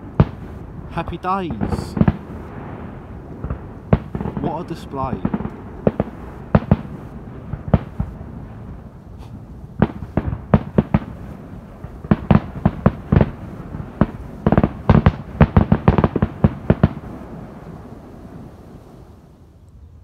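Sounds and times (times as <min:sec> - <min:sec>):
fireworks bangs: 0:00.0 - 0:19.3.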